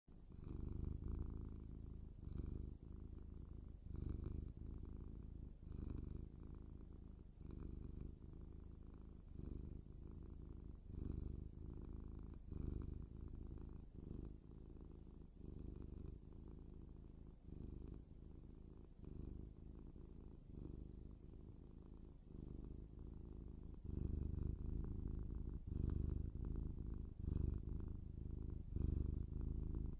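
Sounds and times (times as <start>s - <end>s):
cat purring: 0.1s - 29.9s.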